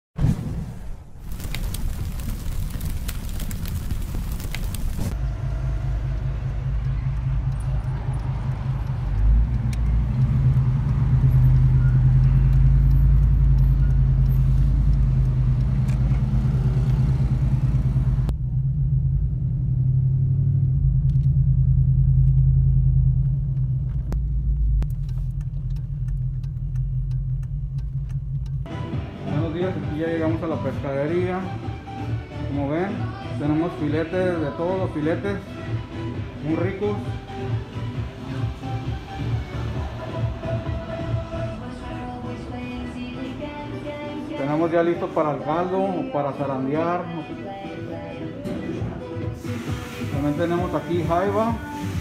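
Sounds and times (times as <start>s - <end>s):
car engine and road noise: 0.3s - 52.0s.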